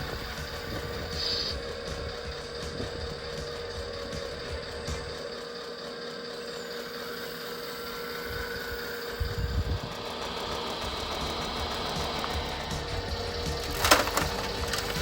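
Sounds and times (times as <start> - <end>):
hydraulic pump whining: 0.0 - 15.0.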